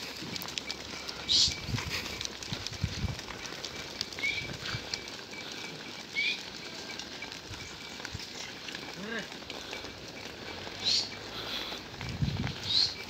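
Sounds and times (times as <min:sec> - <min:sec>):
goat hooves clicking on pavement: 0:00.0 - 0:13.0.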